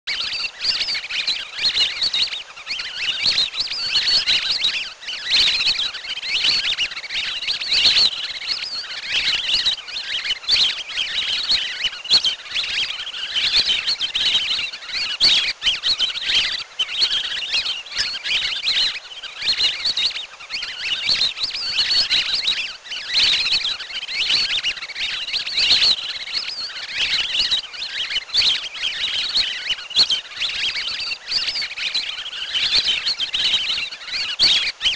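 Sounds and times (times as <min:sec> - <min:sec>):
ducks whistling chirps: 0:00.1 - 0:34.9.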